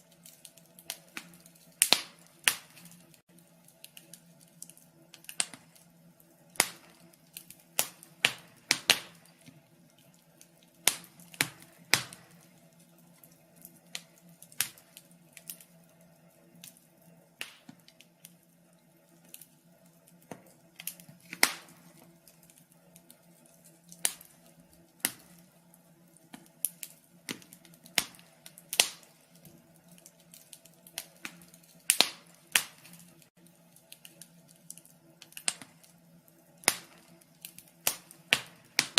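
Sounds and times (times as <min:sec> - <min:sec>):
faint steady hum: 0:00.0 - 0:38.9
wood fire crackling and popping: 0:00.0 - 0:38.9.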